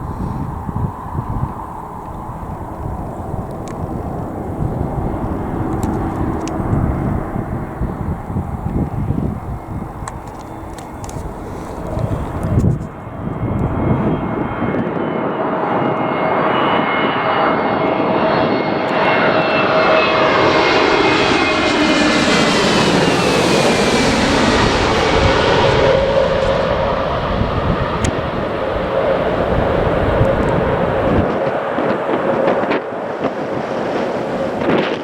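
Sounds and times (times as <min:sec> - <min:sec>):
airliner passing overhead: 0:00.0 - 0:35.0
wind buffeting microphone: 0:00.0 - 0:35.0.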